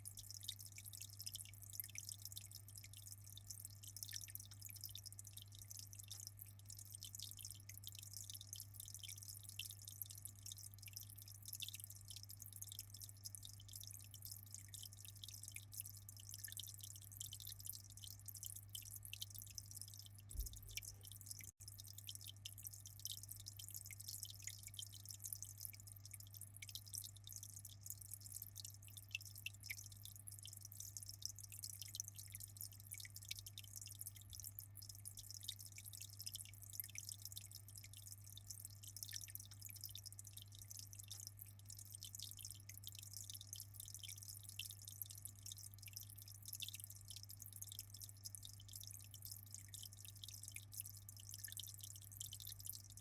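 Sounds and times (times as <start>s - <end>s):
water dripping and trickling: 0.0s - 53.0s.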